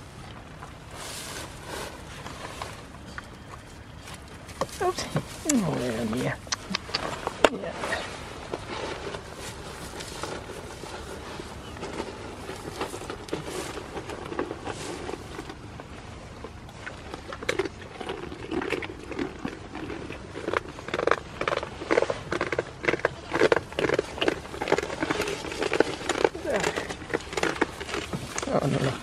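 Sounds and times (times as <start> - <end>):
goats nibbling and licking: 0.0 - 29.0.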